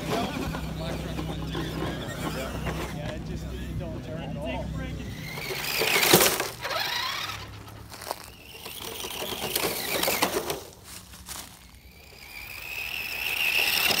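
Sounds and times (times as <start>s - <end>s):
toy truck motor whirring: 0.0s - 14.0s.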